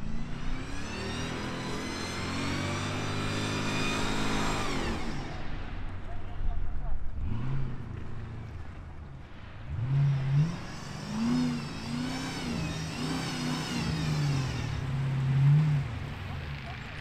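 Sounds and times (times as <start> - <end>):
engine revving hard: 0.0 - 5.8, 7.1 - 8.6, 9.7 - 17.0.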